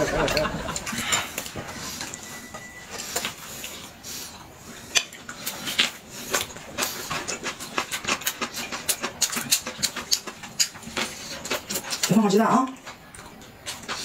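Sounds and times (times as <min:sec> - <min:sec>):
chewing and lip smacking: 0:00.3 - 0:14.0.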